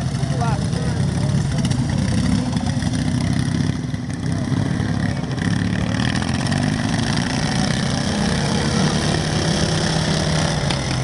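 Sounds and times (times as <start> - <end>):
lawn mower engines racing: 0.0 - 11.0.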